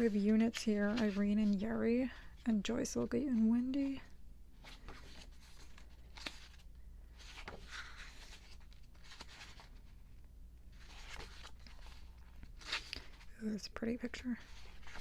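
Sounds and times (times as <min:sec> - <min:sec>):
glossy paper pages turning: 0:00.0 - 0:01.7, 0:03.2 - 0:10.0, 0:10.8 - 0:13.4, 0:14.0 - 0:15.0
faint room hum: 0:00.0 - 0:15.0.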